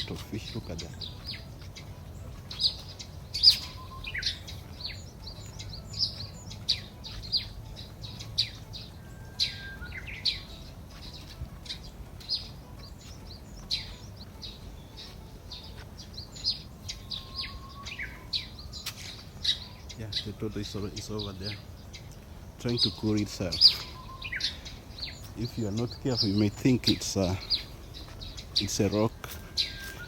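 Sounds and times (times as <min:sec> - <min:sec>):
birds chirping: 0:00.0 - 0:30.0
low background noise: 0:00.0 - 0:30.0.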